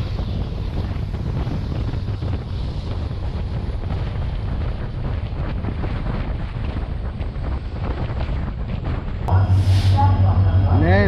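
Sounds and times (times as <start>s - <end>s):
train rumbling along track: 0.0s - 11.0s
wind buffeting microphone: 0.0s - 11.0s.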